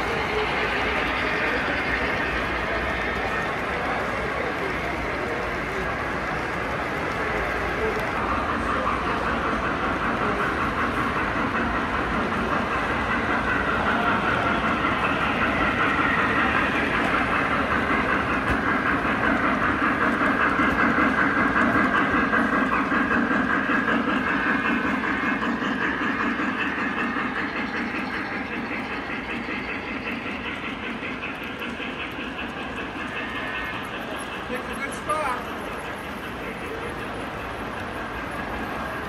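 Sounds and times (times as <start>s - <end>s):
model train wheels on metal track: 0.0s - 39.0s.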